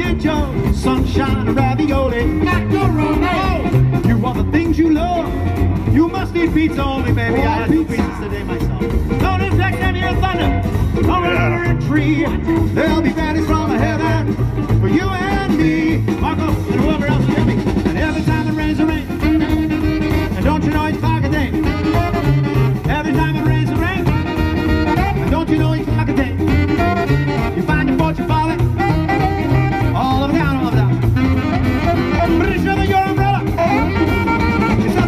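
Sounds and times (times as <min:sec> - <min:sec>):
saxophones playing melody: 0:00.0 - 0:35.0
swing band playing: 0:00.0 - 0:35.0.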